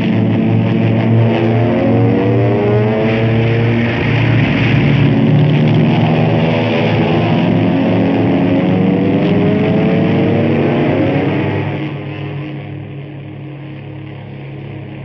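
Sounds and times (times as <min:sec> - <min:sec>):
propeller planes droning: 0:00.0 - 0:15.0.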